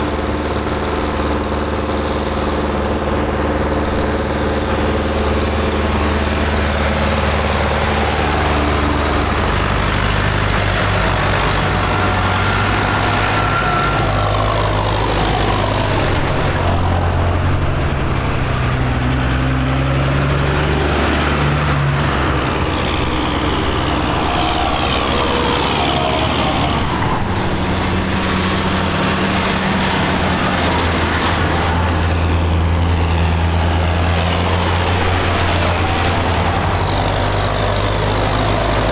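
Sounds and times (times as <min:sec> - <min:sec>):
tractors driving past: 0:00.0 - 0:38.9.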